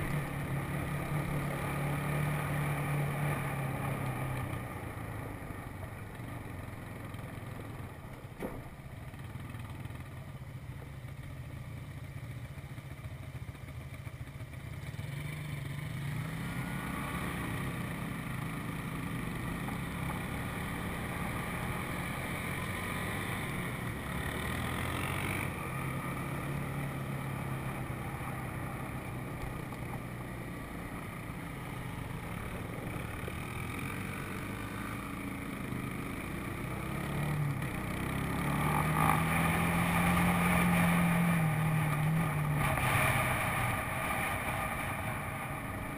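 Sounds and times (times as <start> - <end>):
quad bike engine running: 0.0 - 45.9.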